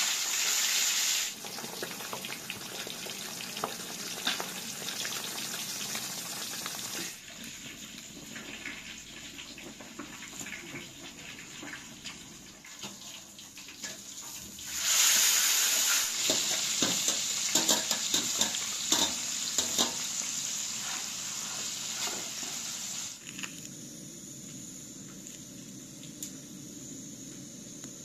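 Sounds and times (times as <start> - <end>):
onions sizzling in hot oil: 0.0 - 23.5.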